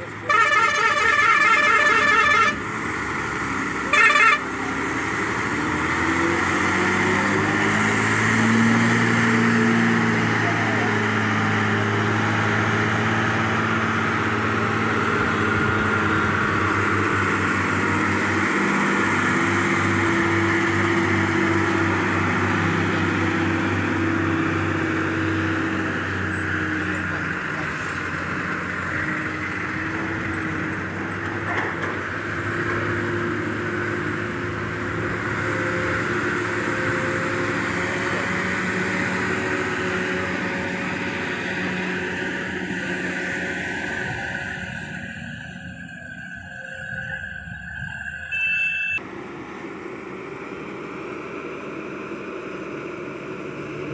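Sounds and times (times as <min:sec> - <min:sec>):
diesel truck engines passing: 0:00.0 - 0:53.9.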